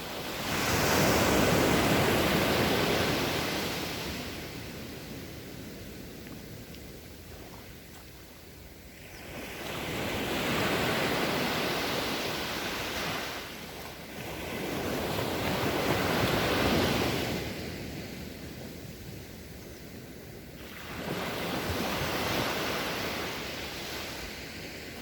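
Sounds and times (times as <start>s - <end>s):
ocean waves washing on shore: 0.0s - 25.0s.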